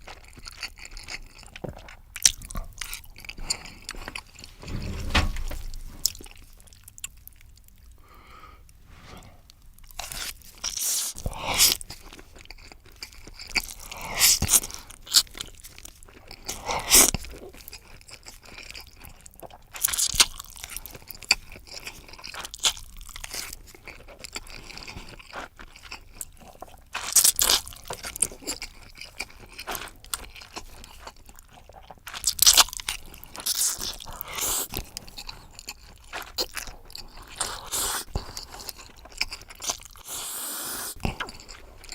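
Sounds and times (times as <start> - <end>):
person chewing noodles: 0.0 - 4.6, 9.4 - 41.9.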